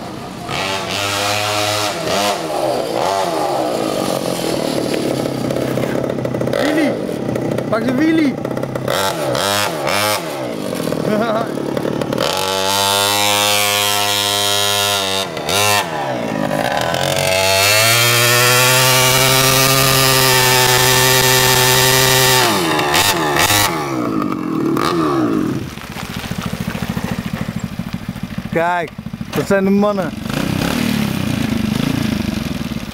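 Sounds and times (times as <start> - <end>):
mini bike engine revving: 0.0 - 32.9.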